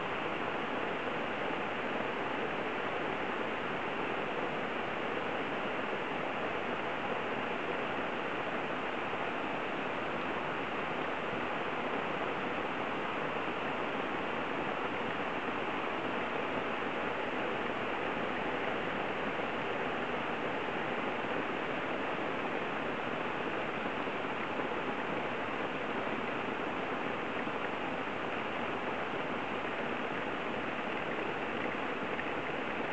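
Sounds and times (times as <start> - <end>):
heavy rain on leafy trees: 0.0 - 32.9.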